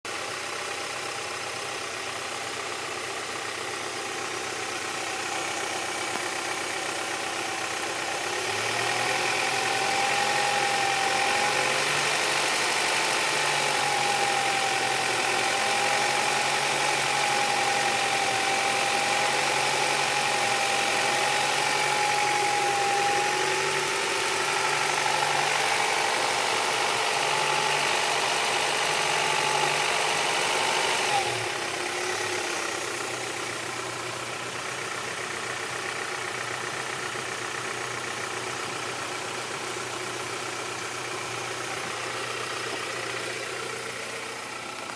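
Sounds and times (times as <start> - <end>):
car engine idling with ticking: 0.1 - 44.9.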